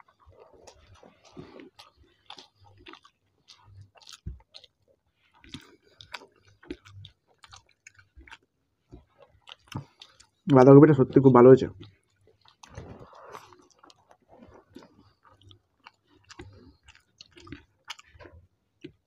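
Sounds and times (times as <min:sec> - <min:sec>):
chewing and wet mouth sounds: 0:00.0 - 0:19.0.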